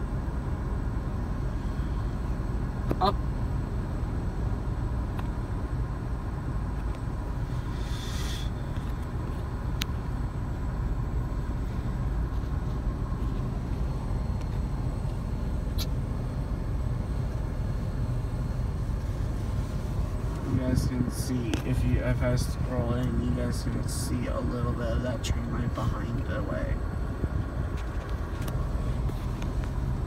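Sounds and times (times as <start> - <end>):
idling vehicles rumble: 0.0 - 30.0.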